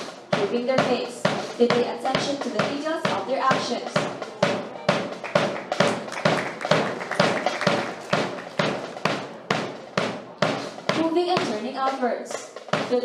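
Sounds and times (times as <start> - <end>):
background music: 0.0 - 13.0
sharp tapping beat: 0.0 - 13.0.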